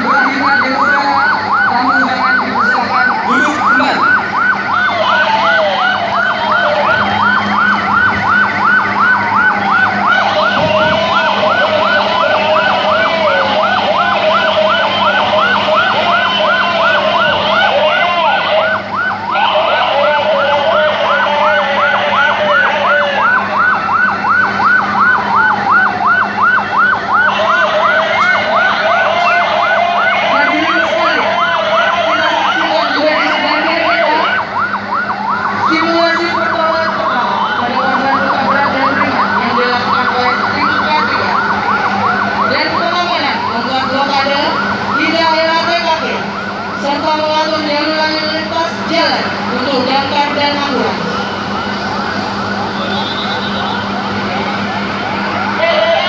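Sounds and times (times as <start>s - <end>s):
siren wailing: 0.0s - 56.0s
siren yelping: 0.0s - 56.0s.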